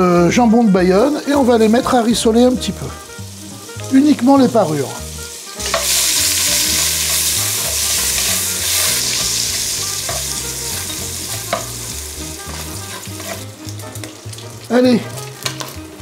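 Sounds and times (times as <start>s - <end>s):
fat sizzling in hot oil: 0.0s - 16.0s.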